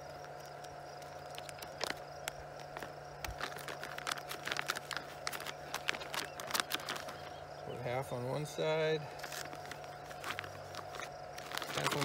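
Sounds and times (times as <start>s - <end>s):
plastic bag crinkling: 0.0s - 7.5s, 8.4s - 12.0s
faint steady hum: 0.0s - 12.0s.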